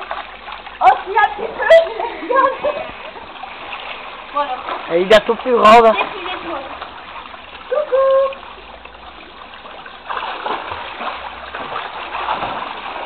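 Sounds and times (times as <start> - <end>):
water splashing in pool: 0.0 - 13.0.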